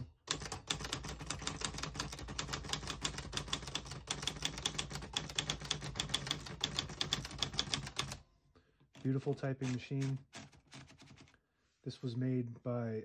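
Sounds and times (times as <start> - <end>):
manual typewriter typing: 0.0 - 8.2, 8.9 - 11.3.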